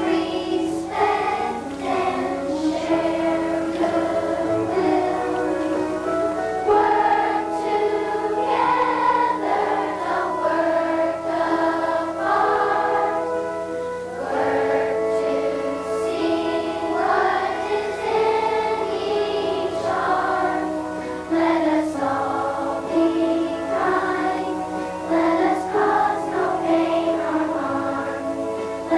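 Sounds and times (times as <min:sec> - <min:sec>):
children's choir singing: 0:00.0 - 0:28.9.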